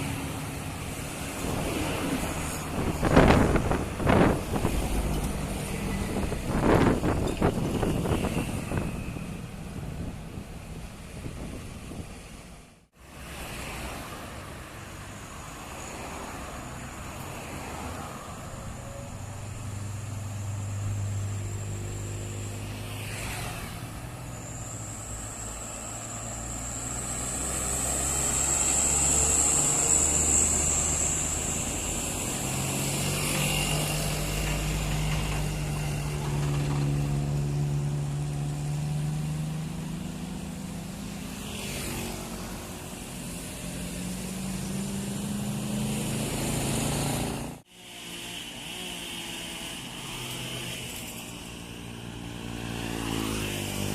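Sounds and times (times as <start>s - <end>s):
heavy diesel vehicles passing: 0.0s - 53.9s.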